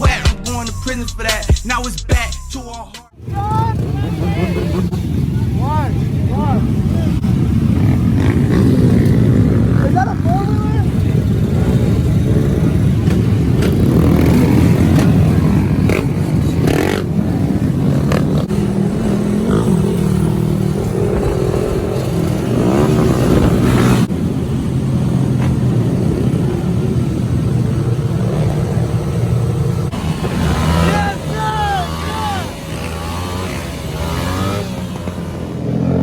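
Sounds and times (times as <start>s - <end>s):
motorcycle engines revving: 3.1s - 36.0s.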